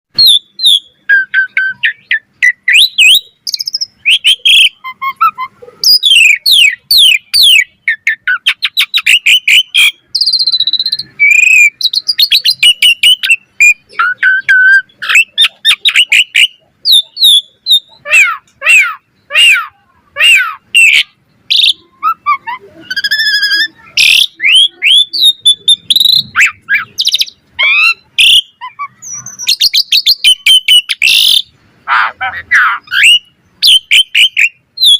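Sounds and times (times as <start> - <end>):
bird singing whistles and chirps: 0.1 - 19.6, 20.2 - 31.5, 32.5 - 34.9.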